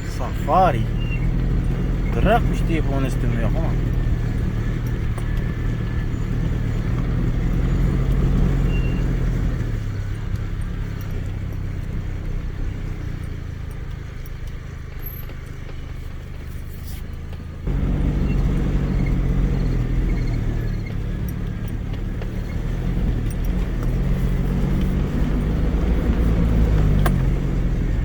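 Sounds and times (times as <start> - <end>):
suv engine and road rumble: 0.0 - 28.0.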